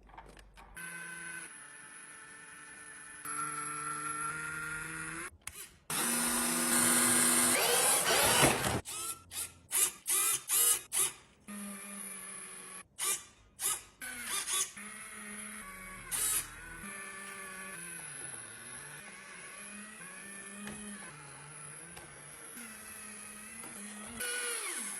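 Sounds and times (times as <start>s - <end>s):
toy car electric motor whirring: 0.8s - 24.9s.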